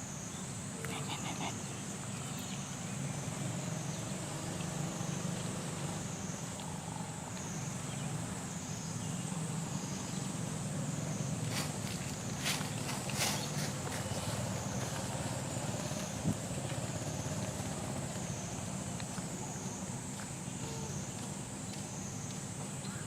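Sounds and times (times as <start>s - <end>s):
low engine rumble: 0.9s - 22.9s.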